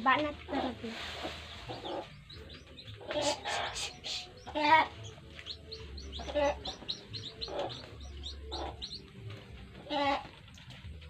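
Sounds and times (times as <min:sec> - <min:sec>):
chickens peeping: 0:00.4 - 0:11.0.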